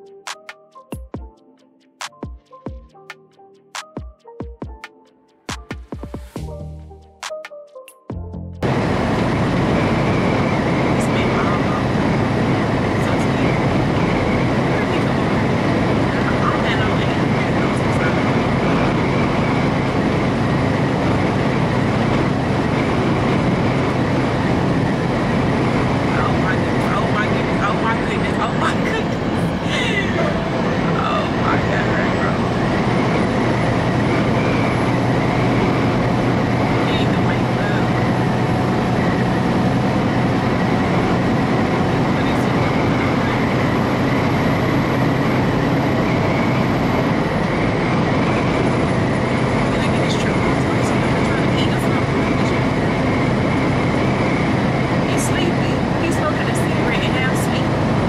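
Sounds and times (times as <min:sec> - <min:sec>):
truck engine and tyres droning: 0:08.5 - 0:58.0.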